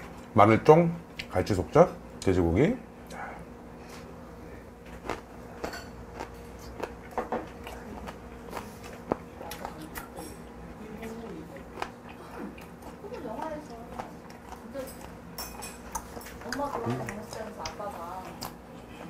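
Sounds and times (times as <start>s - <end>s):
faint steady hum: 0.0s - 19.0s
man chewing with crunches: 3.0s - 19.0s.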